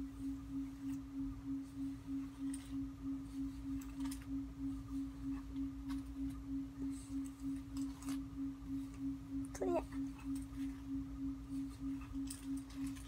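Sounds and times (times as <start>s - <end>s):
pulsing low humming tone: 0.0s - 13.0s.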